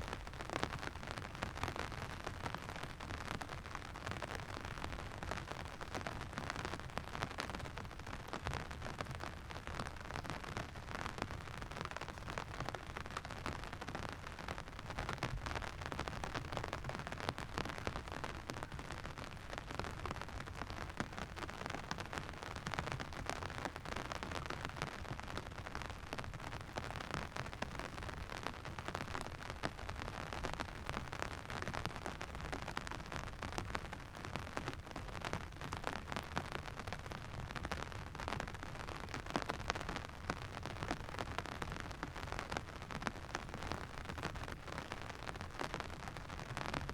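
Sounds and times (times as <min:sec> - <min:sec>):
steady rain pattering: 0:00.0 - 0:46.9.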